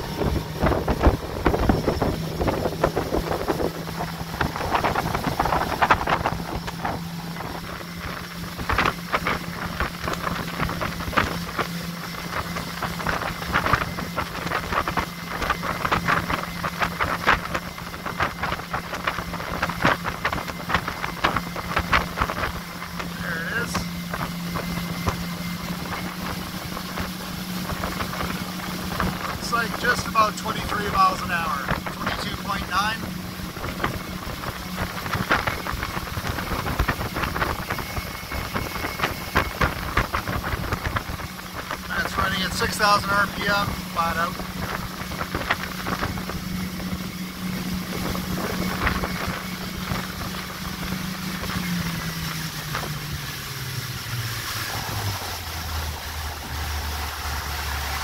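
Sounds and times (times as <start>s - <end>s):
outboard motor running: 0.0s - 58.0s
water splashing: 0.0s - 58.0s
wind noise on microphone: 0.0s - 58.0s.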